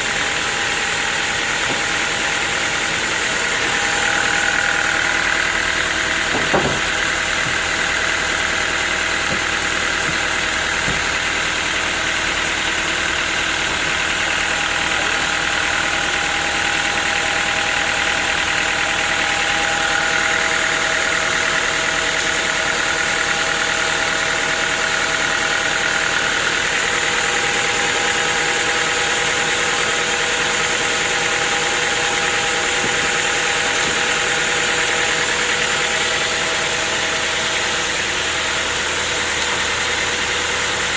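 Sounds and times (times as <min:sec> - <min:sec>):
engine-like drone: 0:00.0 - 0:40.9
sawmill machinery whine: 0:00.0 - 0:40.9.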